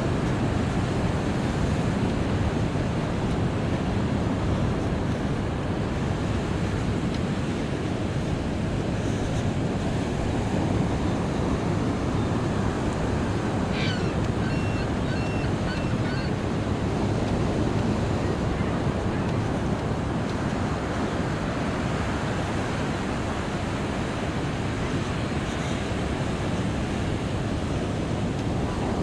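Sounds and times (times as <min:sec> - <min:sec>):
ocean surf on beach: 0:00.0 - 0:29.0
wind on microphone: 0:00.0 - 0:29.0.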